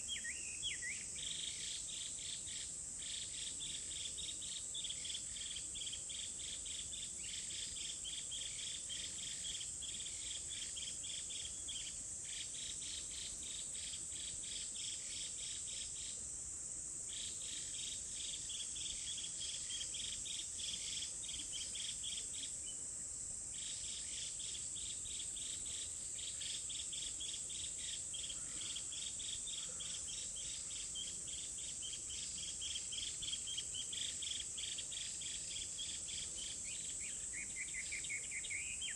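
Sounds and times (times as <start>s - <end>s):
high-pitched insect trill: 0.0s - 38.9s
insects chirping in fast pulse: 0.0s - 38.9s.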